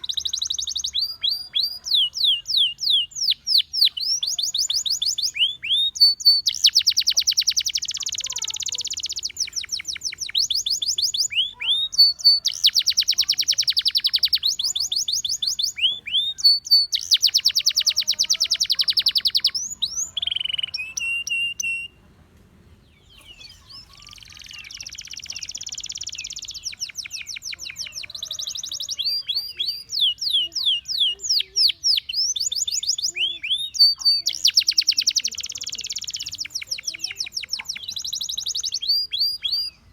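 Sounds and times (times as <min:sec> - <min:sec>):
canary singing trills: 0:00.0 - 0:22.0, 0:22.9 - 0:39.9.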